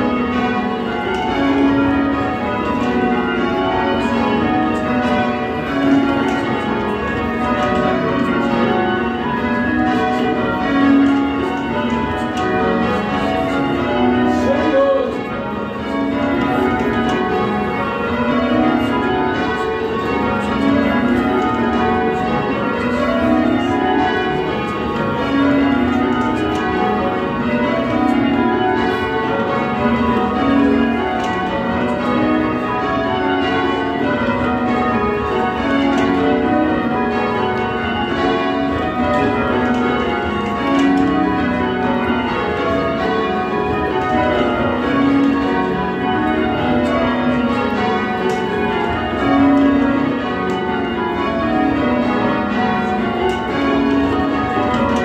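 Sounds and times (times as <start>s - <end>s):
church bells change ringing: 0.0s - 55.0s.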